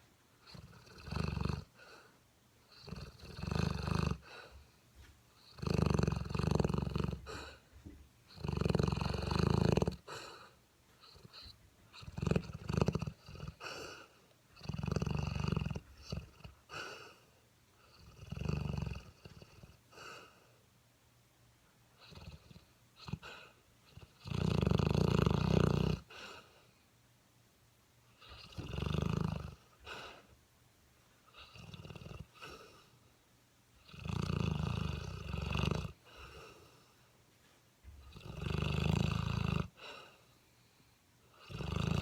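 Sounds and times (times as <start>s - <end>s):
puppy snoring: 0.4s - 4.7s, 5.4s - 7.6s, 8.3s - 20.6s, 22.0s - 26.8s, 28.1s - 30.3s, 31.2s - 33.0s, 33.8s - 36.9s, 38.0s - 40.3s, 41.2s - 42.0s.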